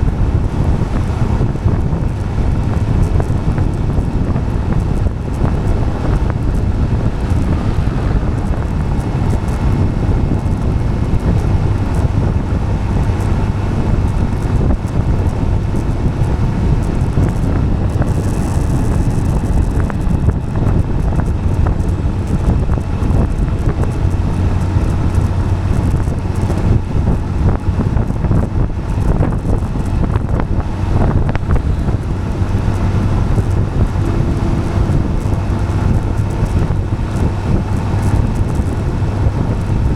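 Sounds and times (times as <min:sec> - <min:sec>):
low road hum: 0:00.0 - 0:39.9
tyres rolling on asphalt: 0:00.0 - 0:39.9
wind buffeting microphone: 0:00.0 - 0:39.9.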